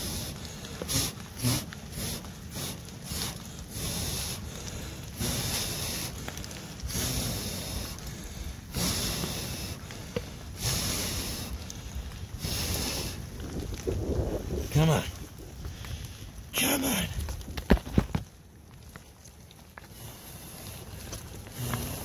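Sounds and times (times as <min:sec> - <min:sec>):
person blowing on embers: 0:00.0 - 0:22.0.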